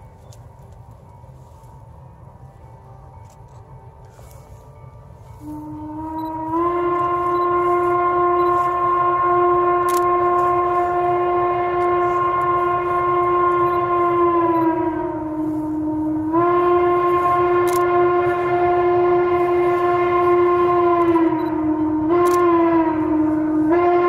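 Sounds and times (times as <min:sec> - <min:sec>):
chime steam whistle: 0:00.0 - 0:24.0.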